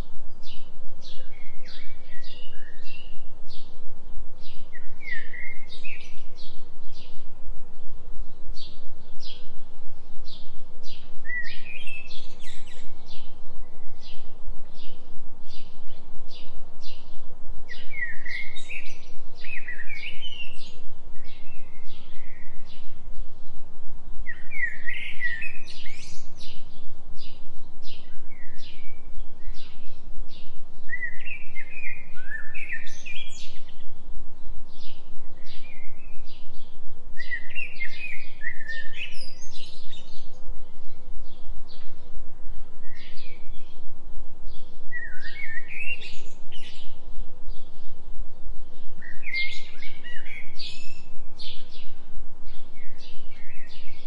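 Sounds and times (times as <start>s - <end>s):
songbirds whistling: 0.0s - 3.8s, 4.4s - 7.3s, 10.3s - 23.6s, 24.2s - 42.2s, 44.5s - 48.0s, 48.8s - 54.0s
steady low hum tone: 0.0s - 54.0s.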